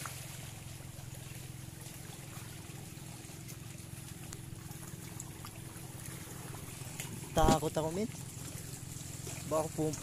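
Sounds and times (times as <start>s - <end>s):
low steady hum: 0.0s - 10.0s
sea water washing among rocks: 0.0s - 10.0s.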